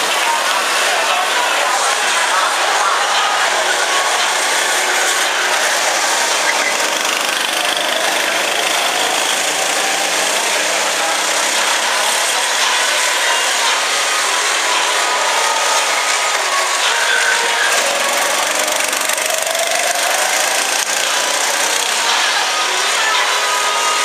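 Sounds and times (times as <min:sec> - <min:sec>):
go-kart engines running: 0:00.0 - 0:24.0.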